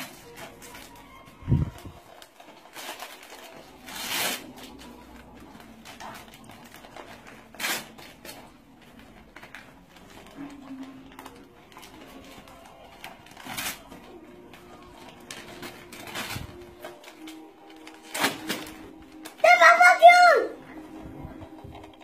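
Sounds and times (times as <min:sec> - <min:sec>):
gift wrapping rustling and tearing: 0:00.0 - 0:22.0.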